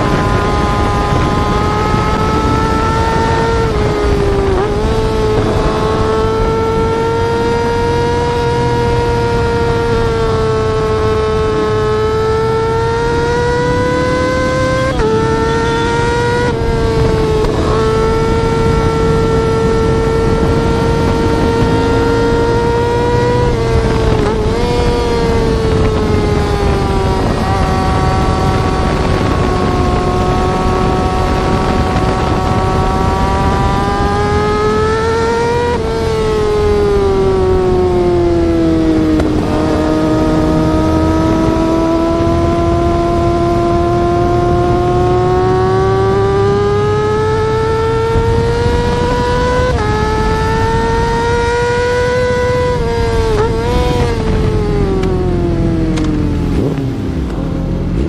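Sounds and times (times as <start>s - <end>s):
low rumble of road and wind: 0.0s - 58.0s
sport bike engine revving high: 0.0s - 58.0s.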